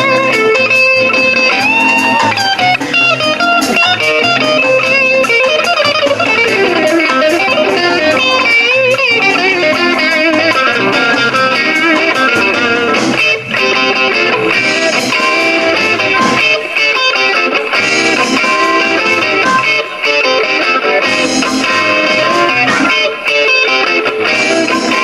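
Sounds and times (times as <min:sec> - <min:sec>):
blues electric guitar: 0:00.0 - 0:25.0
harmonica wailing: 0:00.0 - 0:25.0.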